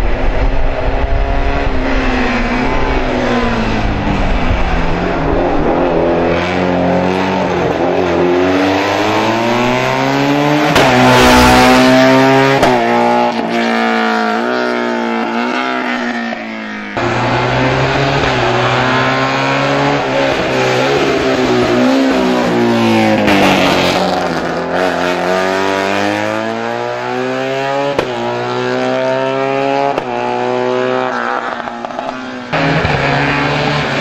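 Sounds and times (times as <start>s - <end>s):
racing car engine revving: 0.1s - 34.0s.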